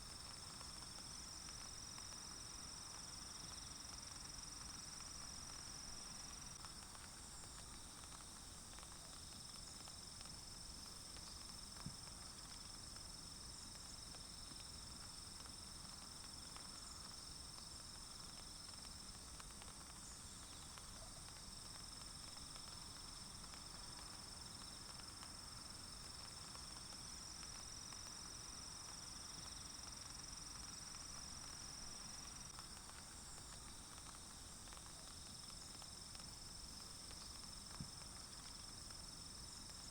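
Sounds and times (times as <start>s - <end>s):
insects trilling in a forest: 0.0s - 39.9s.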